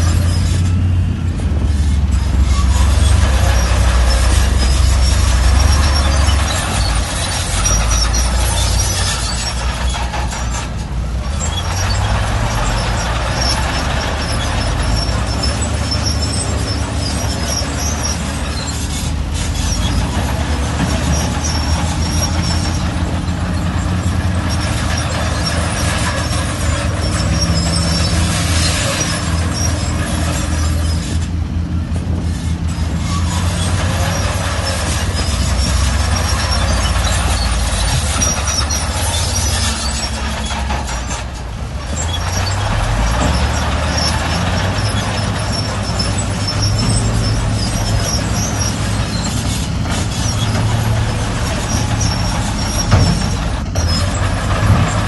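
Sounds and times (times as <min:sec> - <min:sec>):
high-pitched squeaking: 0:00.0 - 0:31.3, 0:32.0 - 0:55.0
bulldozer engine drone: 0:00.0 - 0:55.0
crawler tracks clanking: 0:00.0 - 0:55.0.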